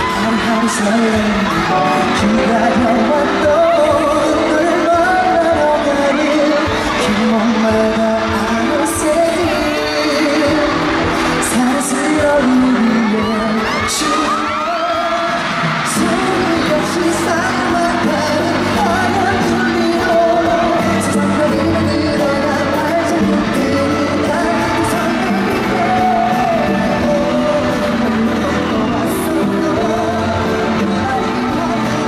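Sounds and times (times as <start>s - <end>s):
audience screaming: 0.0s - 32.0s
man singing amplified: 0.0s - 32.0s
pop backing track: 0.0s - 32.0s.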